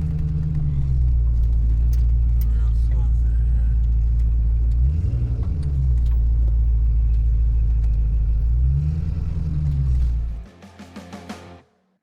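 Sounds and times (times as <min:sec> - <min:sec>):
car engine rumbling and revving: 0:00.0 - 0:10.5.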